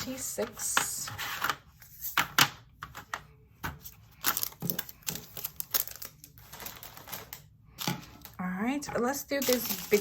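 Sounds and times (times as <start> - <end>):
plastic containers being handled: 0.0 - 10.0.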